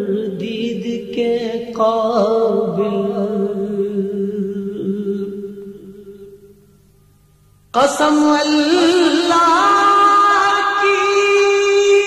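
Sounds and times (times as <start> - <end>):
man singing unaccompanied: 0.0 - 6.5, 7.7 - 12.0.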